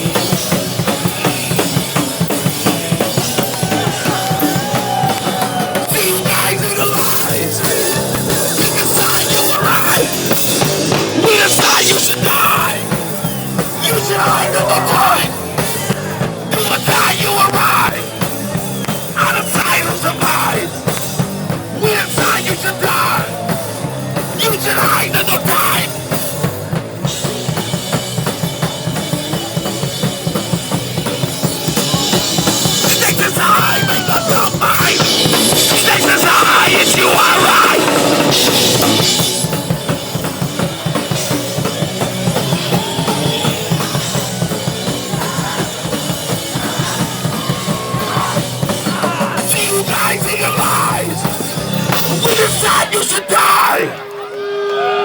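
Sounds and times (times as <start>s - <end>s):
pounding drums: 0.0s - 53.7s
distorted guitars: 0.0s - 55.0s
punk band playing live: 0.0s - 55.0s.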